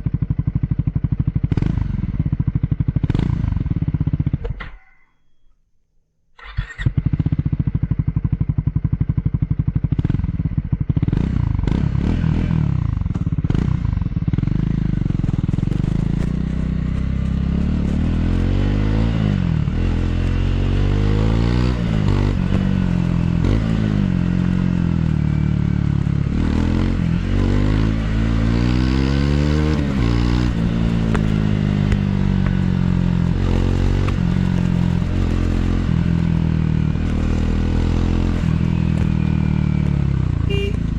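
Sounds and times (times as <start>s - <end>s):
motorcycle engine accelerating: 0.0s - 4.7s, 6.4s - 40.9s.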